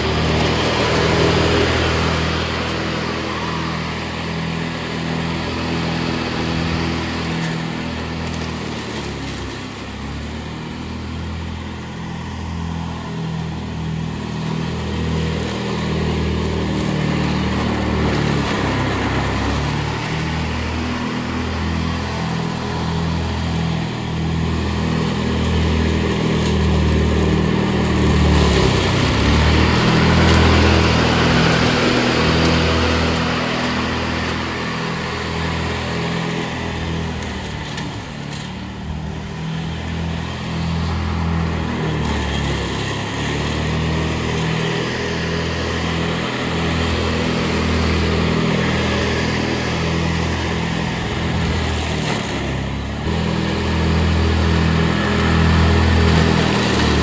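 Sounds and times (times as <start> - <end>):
grass cutting noise: 0.0 - 57.0
lawn mower engine running: 0.0 - 57.0.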